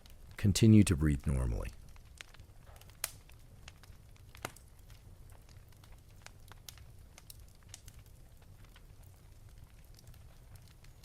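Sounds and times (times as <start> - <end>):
log fire crackling and popping: 0.0 - 11.0.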